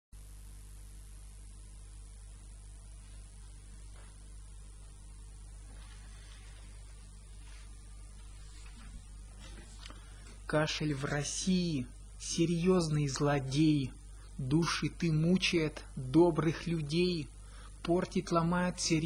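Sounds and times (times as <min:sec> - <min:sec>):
electrical mains hum: 0:00.2 - 0:19.0
low hiss: 0:00.2 - 0:19.0.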